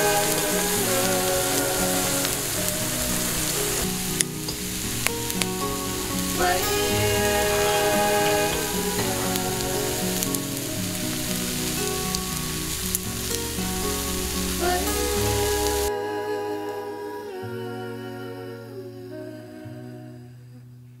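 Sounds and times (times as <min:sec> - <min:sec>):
person humming: 0:00.0 - 0:04.4, 0:06.1 - 0:12.6, 0:14.4 - 0:20.6
soft acoustic guitar music: 0:00.0 - 0:21.0.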